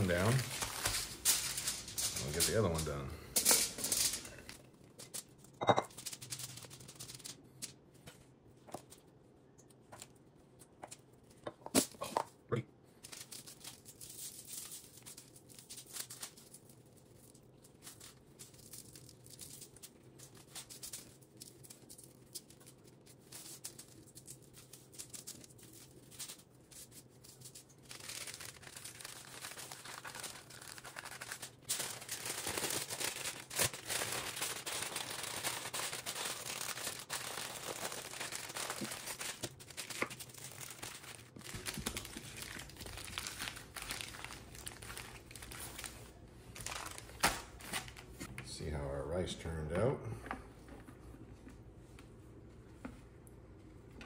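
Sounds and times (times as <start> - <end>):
aluminum foil crinkling: 0.0 - 12.0, 12.9 - 48.3.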